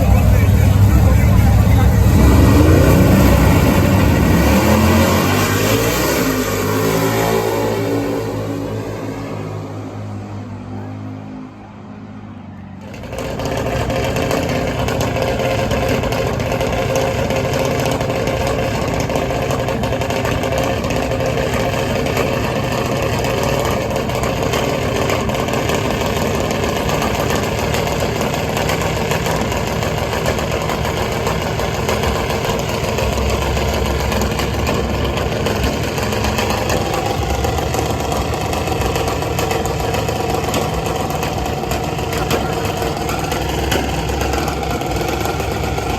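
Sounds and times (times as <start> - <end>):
car engine idling: 0.0 - 9.4, 12.4 - 45.9.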